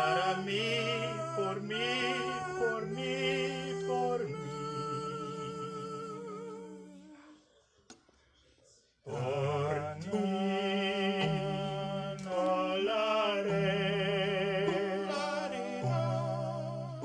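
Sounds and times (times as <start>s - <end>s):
a cappella harmony singing: 0.0s - 7.5s, 9.0s - 17.0s.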